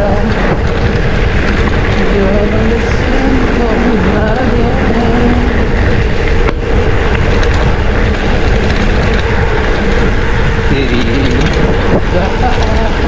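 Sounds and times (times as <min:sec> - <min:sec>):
bike rumbling over rough dirt: 0:00.0 - 0:13.0
wind rush on microphone: 0:00.0 - 0:13.0.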